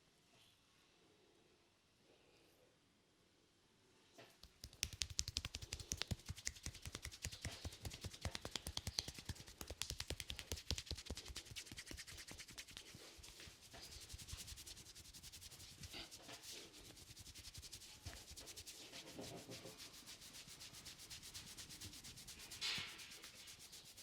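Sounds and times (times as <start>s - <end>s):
hands rubbing hair: 4.4s - 24.0s.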